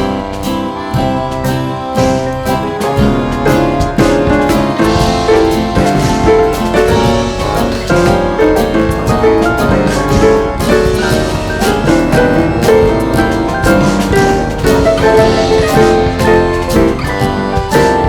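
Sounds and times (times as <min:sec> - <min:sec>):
piano-led instrumental music: 0:00.0 - 0:18.0.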